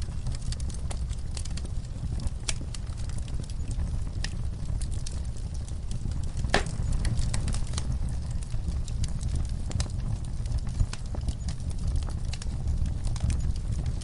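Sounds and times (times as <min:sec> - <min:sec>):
steady low rumble: 0:00.0 - 0:13.8
sharp pops from burning logs: 0:00.0 - 0:14.0
wood fire crackling: 0:00.0 - 0:14.0.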